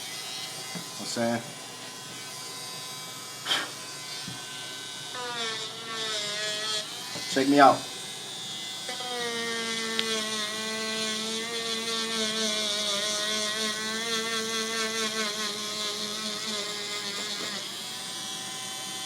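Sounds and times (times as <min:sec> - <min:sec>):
handheld electric sander whining: 0:00.0 - 0:19.0.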